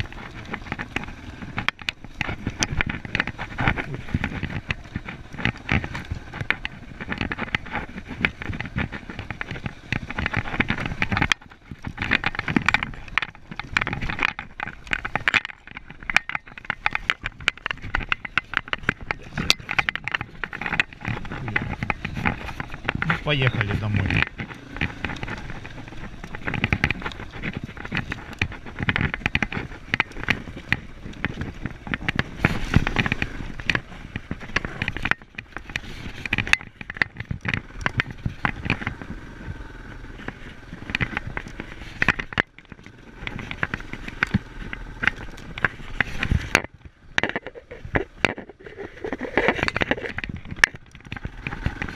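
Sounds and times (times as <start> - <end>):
crackle of knocks: 0.0 - 51.9
motorcycle engine running: 0.0 - 51.9.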